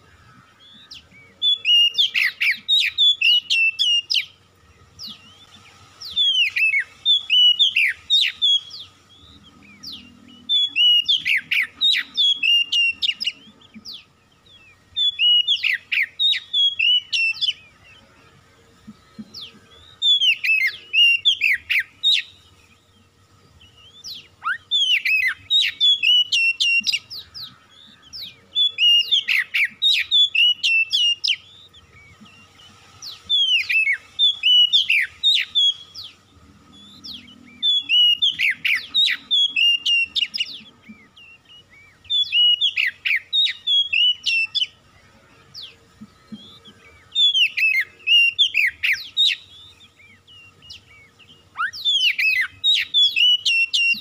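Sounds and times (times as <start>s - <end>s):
bird singing whistled phrases: 0.0s - 4.4s, 5.0s - 18.0s, 19.4s - 22.6s, 23.6s - 44.8s, 45.4s - 54.0s.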